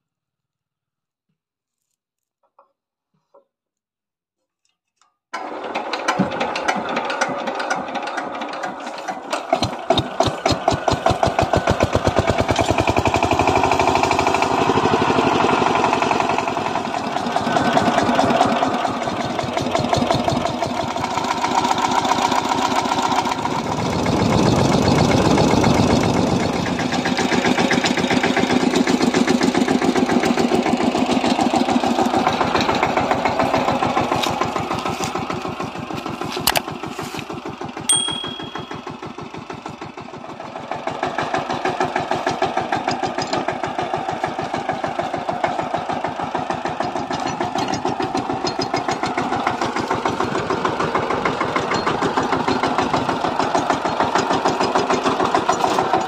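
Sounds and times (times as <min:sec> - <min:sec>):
diesel engine chugging: 0:06.3 - 0:56.0.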